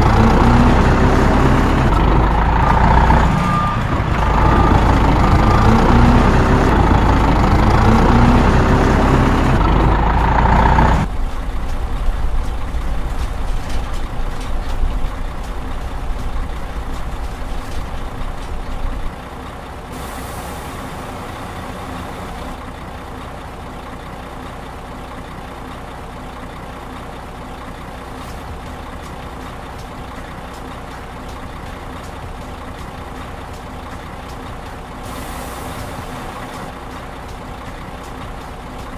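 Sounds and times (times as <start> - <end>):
heavy truck engines running: 0.0 - 38.9.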